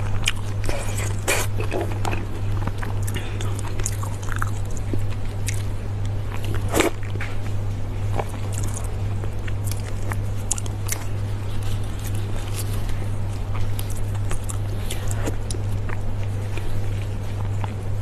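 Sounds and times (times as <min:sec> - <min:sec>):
low hum: 0:00.0 - 0:18.0
wet chewing and crunching: 0:00.0 - 0:18.0.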